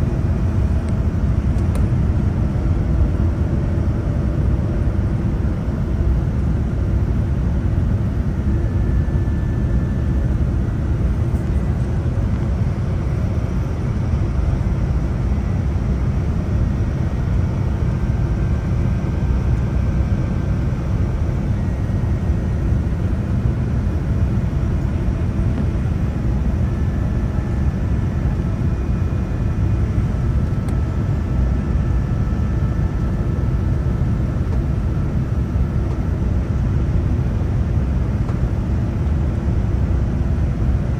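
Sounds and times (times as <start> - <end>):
airplane cabin rumble: 0.0 - 40.9
faint high whining tones: 5.5 - 38.9.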